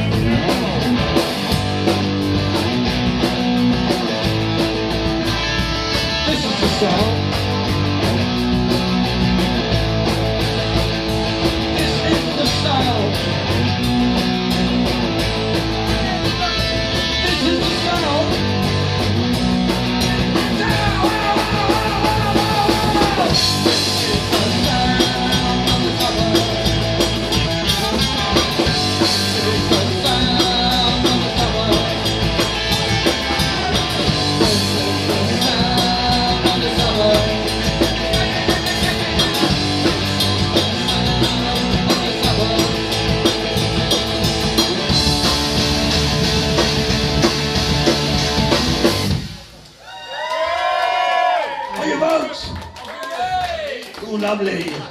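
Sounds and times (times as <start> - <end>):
drum kit beat: 0.0 - 50.0
bass guitar: 0.0 - 50.5
electric guitars: 0.0 - 50.6.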